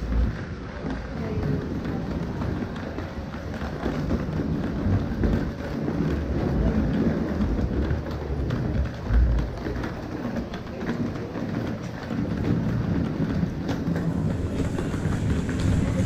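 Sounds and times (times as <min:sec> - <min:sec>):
footsteps: 0:00.0 - 0:16.0
murmur of many voices: 0:00.0 - 0:16.0.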